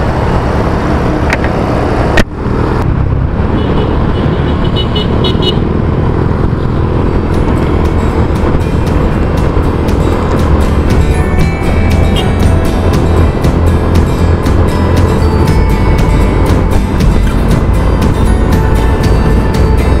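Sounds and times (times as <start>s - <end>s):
motorcycle road noise: 0.0s - 20.0s.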